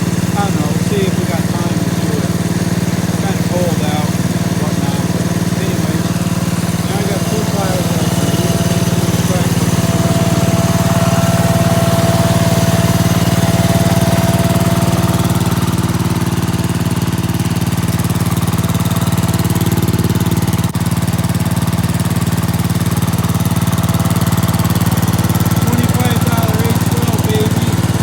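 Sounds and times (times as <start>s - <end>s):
garden tractor engine running: 0.0s - 28.0s.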